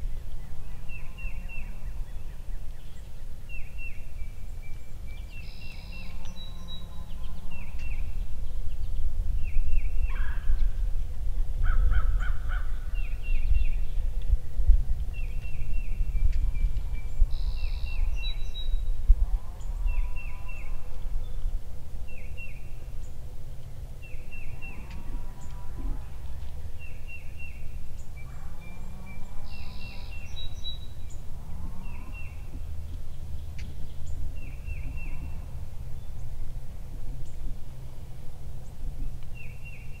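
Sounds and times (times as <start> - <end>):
songbird chirping: 0.0 - 40.0
steady low rumble: 0.0 - 40.0
turkey low hums: 0.0 - 40.0.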